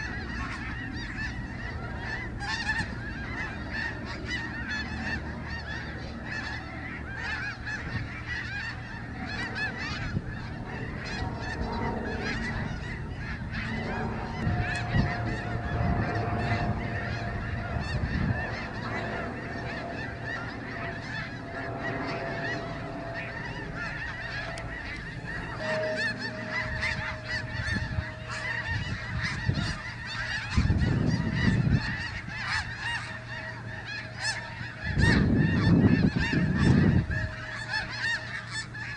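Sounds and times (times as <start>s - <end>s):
low rumbling: 0.0s - 37.9s
snow geese honking: 0.0s - 38.9s.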